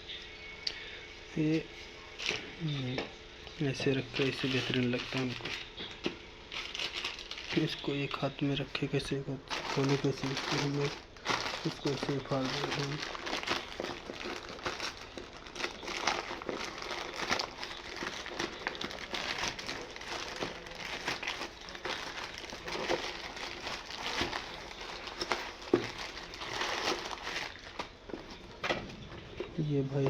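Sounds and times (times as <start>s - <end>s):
plastic packaging crinkling: 3.9s - 28.7s.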